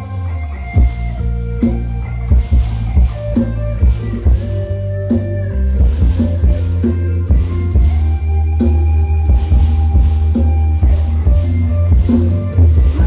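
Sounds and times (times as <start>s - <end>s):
electric guitar melody: 0.0s - 13.0s
heavy bass: 0.0s - 13.0s
drum beat: 0.8s - 13.0s.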